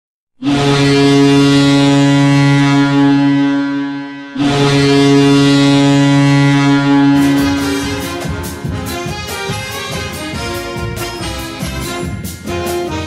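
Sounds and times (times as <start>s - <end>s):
hockey goal horn blasts: 0.4s - 13.0s.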